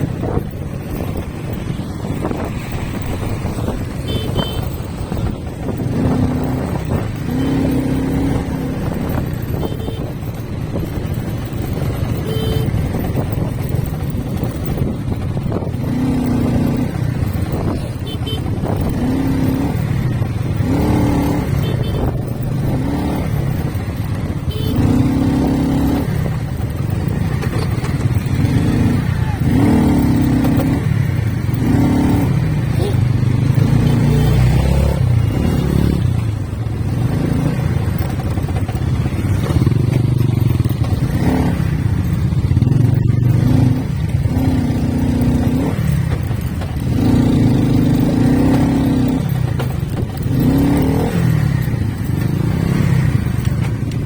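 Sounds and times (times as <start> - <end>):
motorcycle engine rumble: 0.0 - 54.0
wind and road noise: 0.0 - 54.0.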